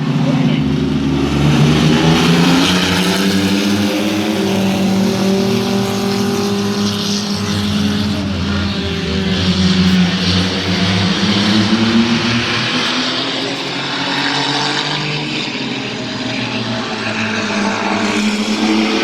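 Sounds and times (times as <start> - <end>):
race truck engines: 0.0 - 19.0.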